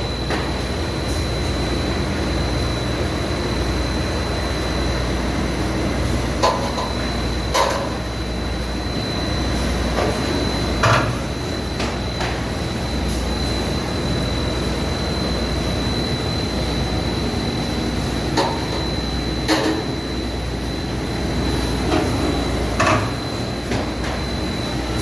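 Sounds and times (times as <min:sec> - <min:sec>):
factory machinery whining: 0:00.0 - 0:25.0.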